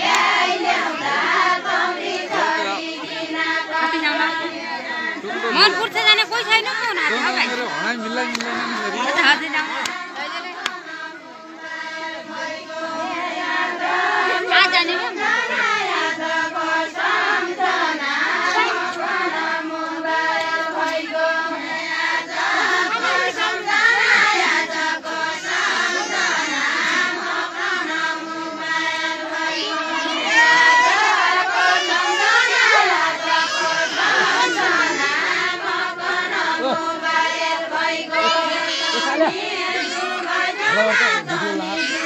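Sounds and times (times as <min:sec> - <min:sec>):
women singing folk song: 0:00.0 - 0:41.9.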